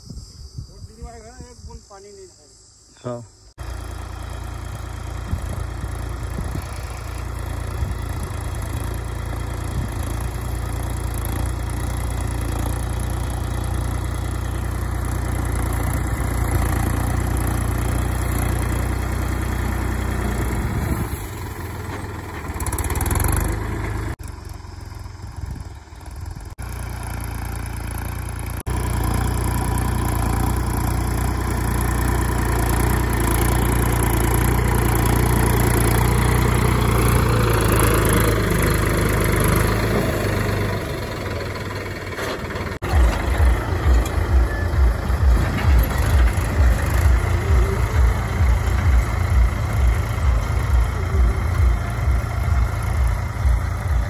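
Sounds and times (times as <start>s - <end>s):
tractor diesel engine under load: 3.6s - 54.0s.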